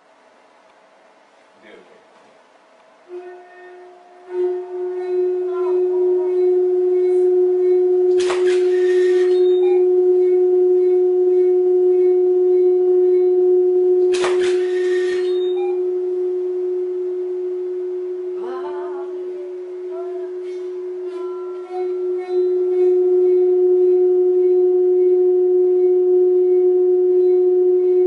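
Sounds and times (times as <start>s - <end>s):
steady pitched tone: 3.0s - 28.0s.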